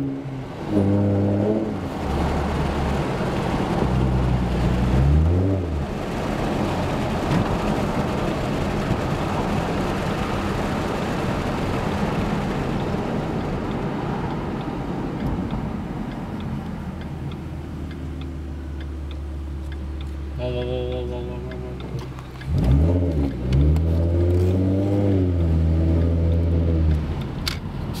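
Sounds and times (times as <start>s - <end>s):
car engine revving: 0.0s - 27.6s
exhaust drone: 0.0s - 28.0s
road noise: 0.0s - 28.0s.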